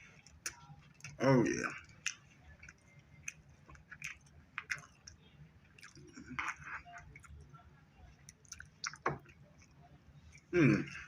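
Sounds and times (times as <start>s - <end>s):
person chewing food: 0.0s - 7.5s, 8.2s - 11.0s.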